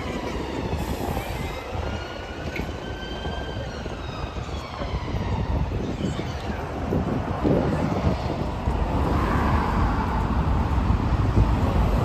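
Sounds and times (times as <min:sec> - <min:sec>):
traffic rumble: 0:00.0 - 0:12.0
voices of passers-by: 0:00.0 - 0:12.0.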